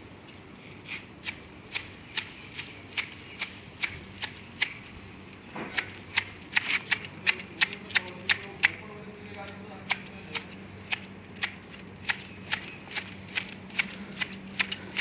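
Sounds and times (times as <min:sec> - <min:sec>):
pruning shears snipping twigs: 0:00.9 - 0:15.0.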